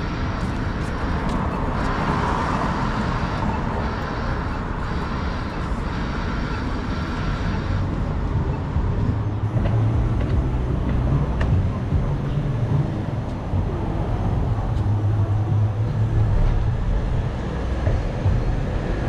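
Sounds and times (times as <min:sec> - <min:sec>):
car engines: 0:00.0 - 0:19.0
car tyres on road: 0:00.0 - 0:19.0
low engine rumble: 0:00.0 - 0:19.0.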